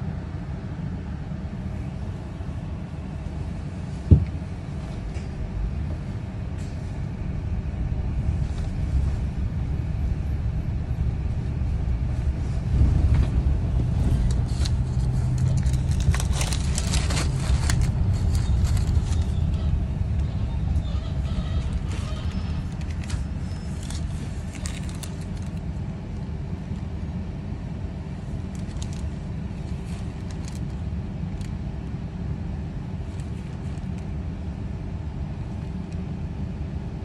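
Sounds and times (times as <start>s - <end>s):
bus engine rumbling: 0.0s - 37.0s.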